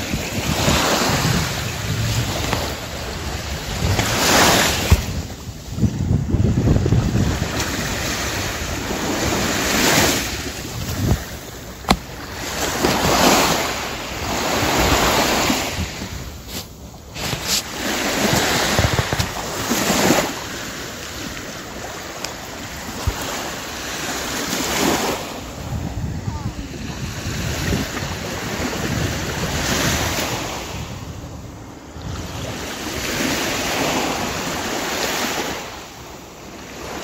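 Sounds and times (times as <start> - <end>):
wind buffeting microphone: 0.0 - 35.8
waves washing on sandy beach: 0.0 - 37.0.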